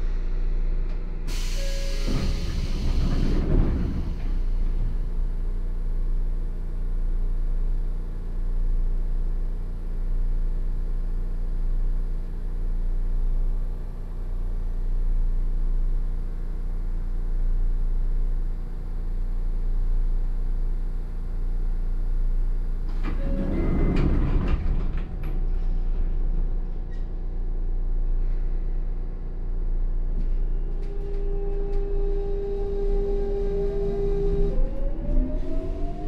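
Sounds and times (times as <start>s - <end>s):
train low rumble: 0.0s - 36.0s
constant hum: 2.0s - 36.0s.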